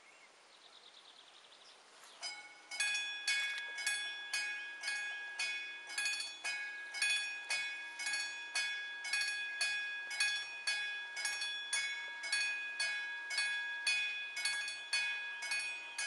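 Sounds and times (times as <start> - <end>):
level crossing warning bell ringing: 2.2 - 16.0.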